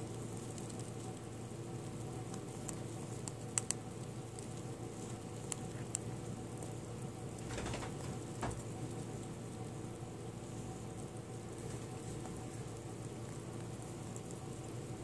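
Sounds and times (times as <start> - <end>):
rat nibbling food: 0.0 - 15.0
steady low hum: 0.0 - 15.0.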